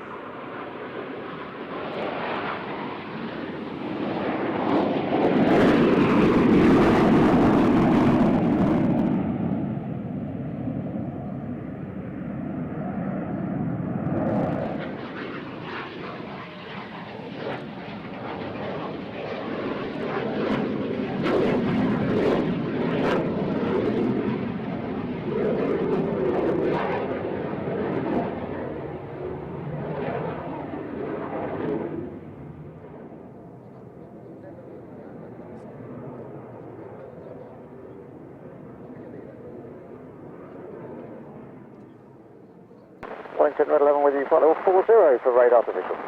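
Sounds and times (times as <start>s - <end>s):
aircraft flying past: 0.0s - 42.4s.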